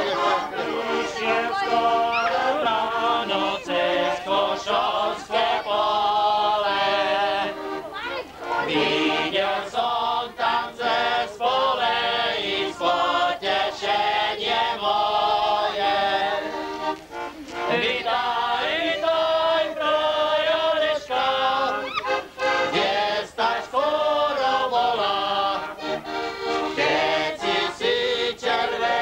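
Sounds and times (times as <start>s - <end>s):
men singing folk song: 0.0s - 7.8s, 8.4s - 29.0s.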